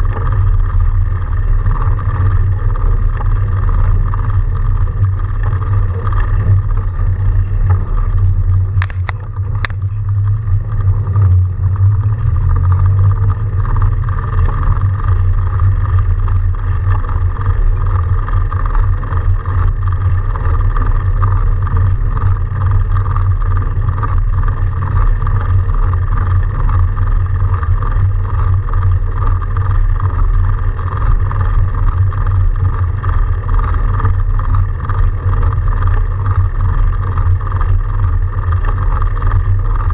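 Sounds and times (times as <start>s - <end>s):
electric bike rumbling through snow: 0.0s - 39.9s
low rising tone: 0.0s - 39.9s.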